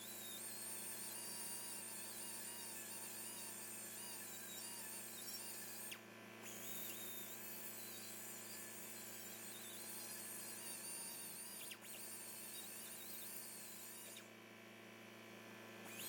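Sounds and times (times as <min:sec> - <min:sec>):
rotary sander whining on metal: 0:00.0 - 0:14.4, 0:15.7 - 0:16.0.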